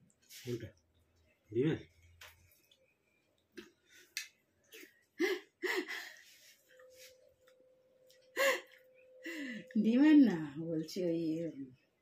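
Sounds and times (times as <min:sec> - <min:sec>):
faint steady hum: 0:00.8 - 0:12.0.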